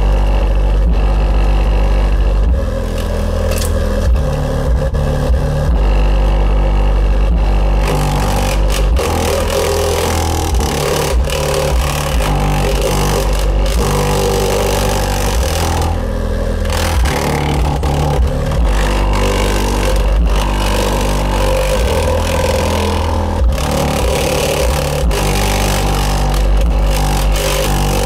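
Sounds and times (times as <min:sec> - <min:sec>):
subwoofer playing heavy bass: 0:00.0 - 0:28.0.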